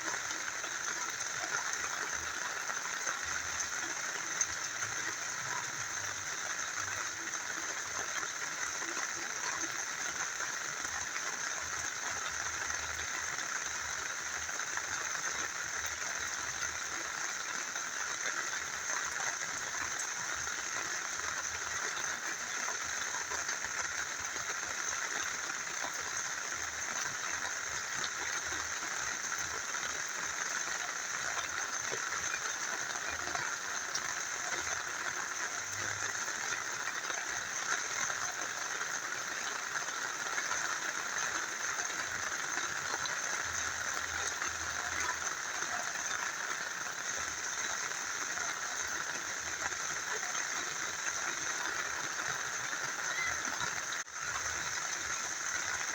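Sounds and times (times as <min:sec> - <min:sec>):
small river running: 0:00.0 - 0:55.9
steady rain falling: 0:00.0 - 0:55.9.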